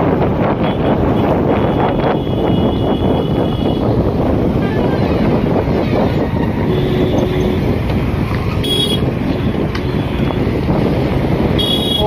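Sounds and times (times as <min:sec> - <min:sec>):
motor vehicles running: 0:00.0 - 0:12.0
wind rumbling on microphone: 0:00.0 - 0:12.0.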